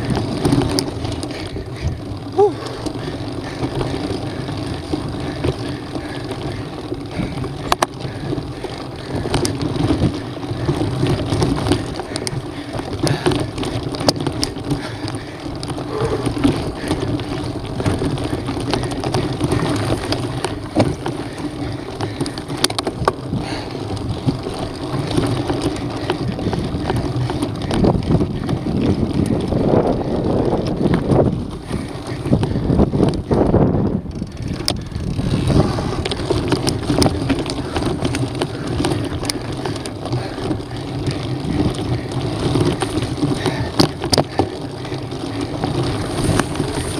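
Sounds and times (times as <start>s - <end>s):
bike clicking and knocking over bumps: 0.0s - 46.9s
bike tyres rolling on dirt: 0.0s - 46.9s
wind rushing over microphone: 0.0s - 46.9s.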